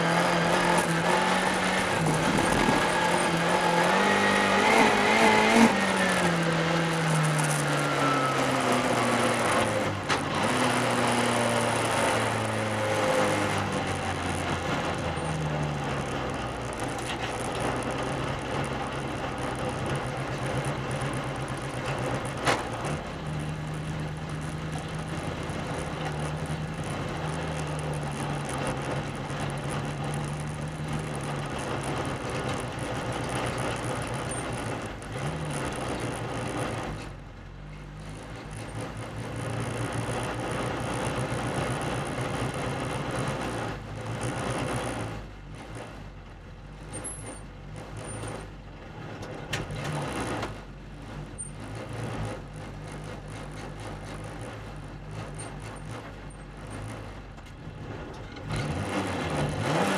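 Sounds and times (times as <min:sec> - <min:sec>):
car engine racing: 0:00.0 - 0:59.9.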